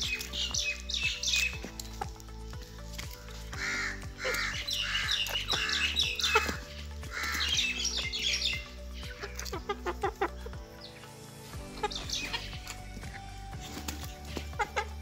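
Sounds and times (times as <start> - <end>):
background music: 0.0 - 15.0
chickens calling: 0.0 - 15.0.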